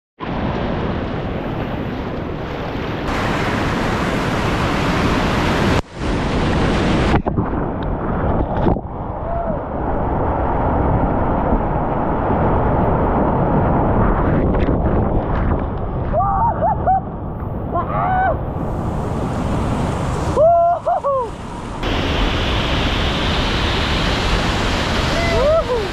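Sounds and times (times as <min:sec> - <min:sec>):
whitewater rushing and splashing: 0:00.2 - 0:15.0, 0:17.7 - 0:25.9.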